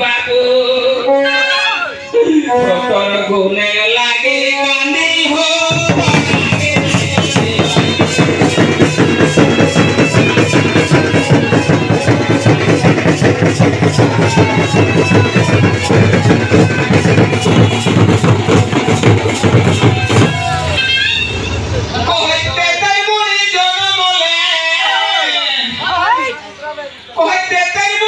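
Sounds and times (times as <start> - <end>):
drums in fast rhythm: 1.8 - 26.2.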